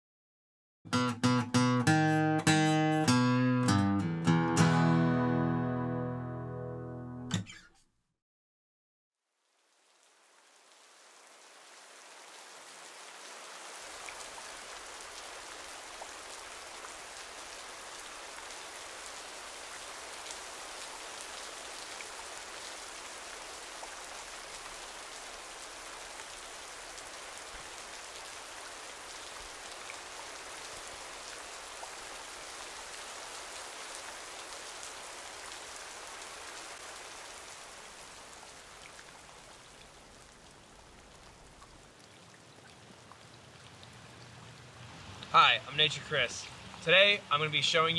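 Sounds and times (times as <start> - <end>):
rain falling on pond water: 9.2 - 47.9.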